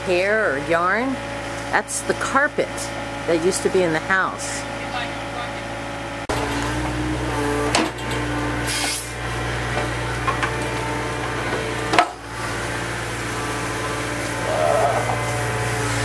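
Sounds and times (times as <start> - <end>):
diesel engine of heavy machinery: 0.0 - 16.0.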